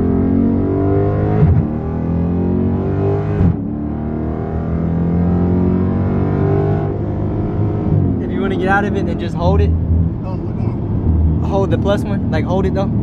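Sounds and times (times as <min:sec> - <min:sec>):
car engine revving at full throttle: 0:00.0 - 0:13.0.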